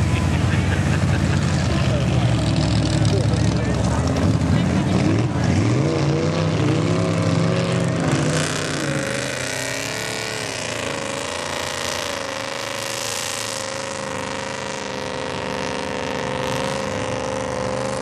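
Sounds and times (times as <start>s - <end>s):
mud and water splashing: 0.0s - 18.0s
truck engine revving: 0.0s - 18.0s.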